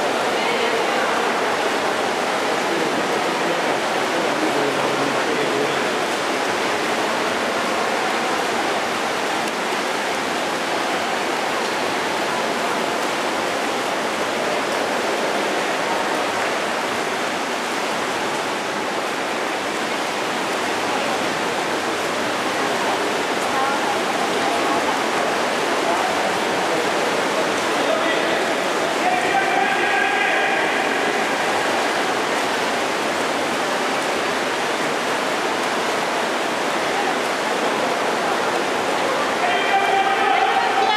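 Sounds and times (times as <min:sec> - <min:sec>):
swimmers churning water: 0:00.0 - 0:40.9.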